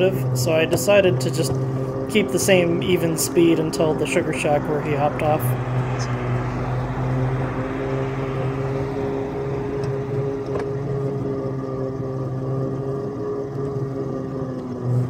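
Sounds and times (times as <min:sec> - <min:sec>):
small locomotive running: 0:00.0 - 0:15.0.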